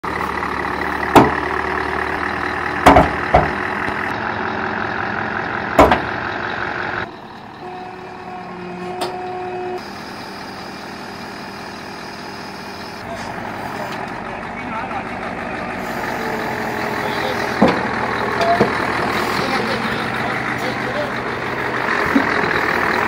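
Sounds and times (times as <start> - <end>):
truck hydraulic hoist drone: 0.1 - 14.2, 15.3 - 23.0.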